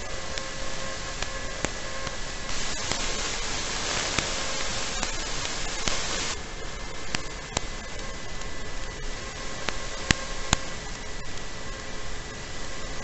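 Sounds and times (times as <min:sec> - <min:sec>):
steady static hiss: 0:00.0 - 0:13.0.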